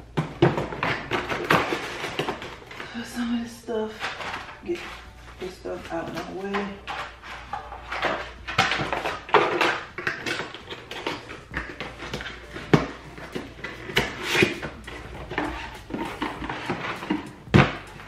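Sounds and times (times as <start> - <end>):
cardboard and paper rustling: 0.3 - 18.0.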